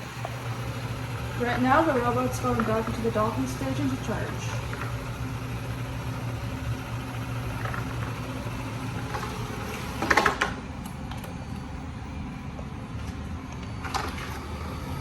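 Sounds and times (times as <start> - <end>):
robot vacuum humming: 0.0 - 10.4, 11.1 - 15.0.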